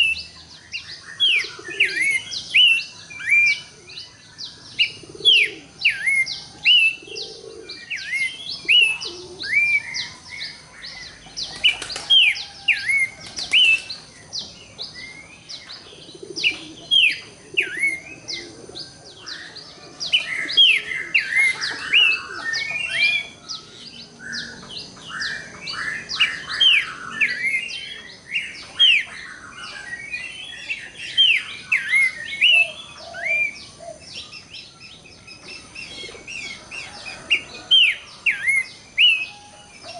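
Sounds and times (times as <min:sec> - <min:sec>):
bird whistling song: 0:00.0 - 0:39.9.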